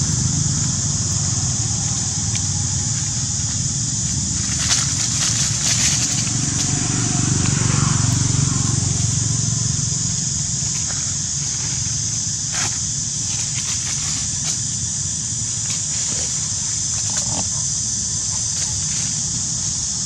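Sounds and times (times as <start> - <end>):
high hiss: 0.0 - 20.0.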